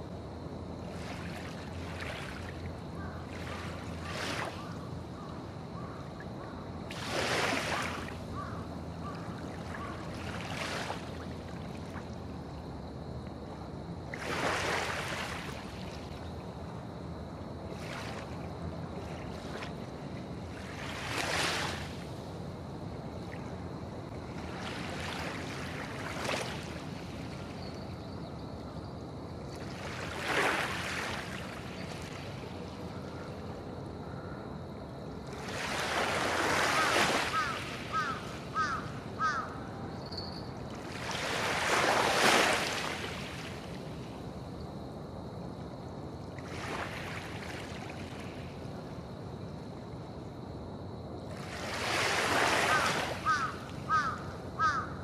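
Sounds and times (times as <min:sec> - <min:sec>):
waves lapping: 0:00.8 - 0:06.0, 0:06.9 - 0:12.6, 0:14.0 - 0:16.7, 0:17.7 - 0:28.0, 0:29.4 - 0:34.0, 0:35.1 - 0:39.6, 0:40.6 - 0:44.4, 0:45.6 - 0:50.1, 0:51.3 - 0:54.9.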